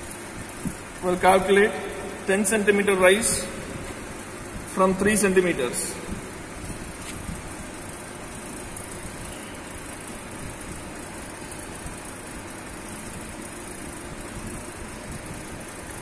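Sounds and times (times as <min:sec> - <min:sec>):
electric pump running: 0:00.0 - 0:16.0.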